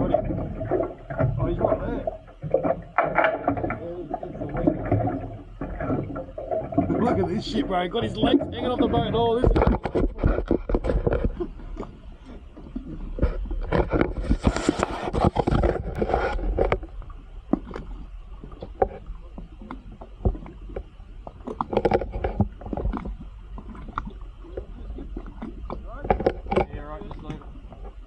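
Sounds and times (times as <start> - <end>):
boat engine low rumble: 0.0 - 28.0.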